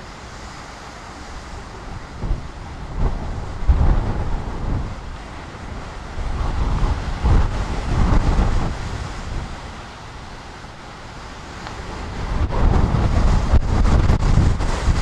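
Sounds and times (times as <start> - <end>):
storm wind gusting through trees: 0.0 - 15.0.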